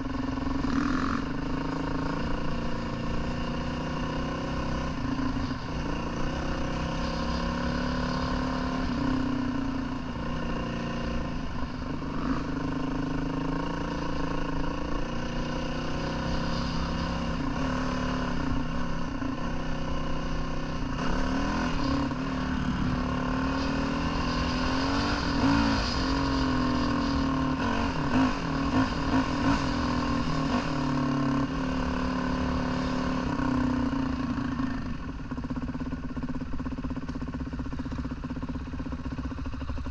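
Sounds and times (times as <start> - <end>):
dirt bike engine revving: 0.4 - 34.8.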